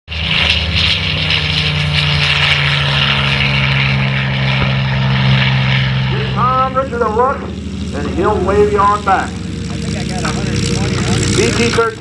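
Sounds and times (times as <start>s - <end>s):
propeller aircraft engine running: 0.1s - 12.0s
propeller hiss: 0.1s - 12.0s.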